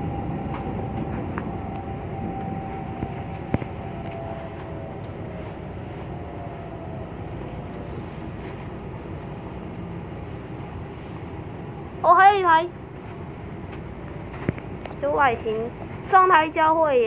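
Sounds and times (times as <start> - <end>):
train running gear rumble: 0.0 - 17.0.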